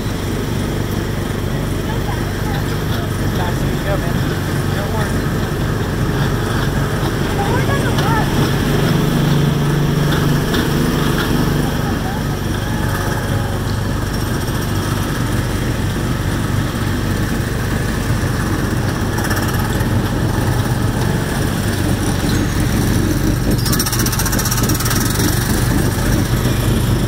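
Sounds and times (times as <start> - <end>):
small gasoline engine droning: 0.0 - 27.0
buzzy rattle: 1.7 - 27.0.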